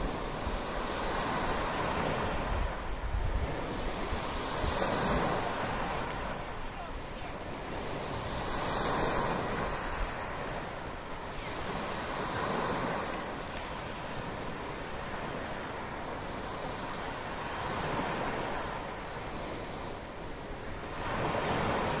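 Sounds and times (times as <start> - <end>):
waves washing onto gravel shore: 0.0 - 22.0
wind buffeting microphone: 0.0 - 22.0.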